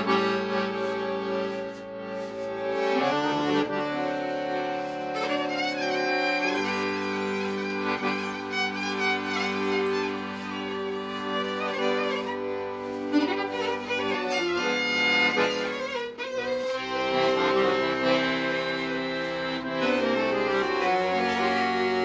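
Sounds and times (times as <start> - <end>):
accordion chords: 0.0 - 22.0
violin melody: 0.0 - 22.0.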